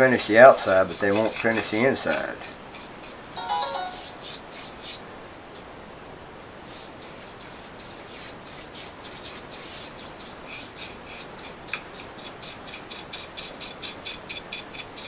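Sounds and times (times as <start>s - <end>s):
paintbrush bristles scratching on wood: 0.1s - 5.0s, 6.7s - 15.0s.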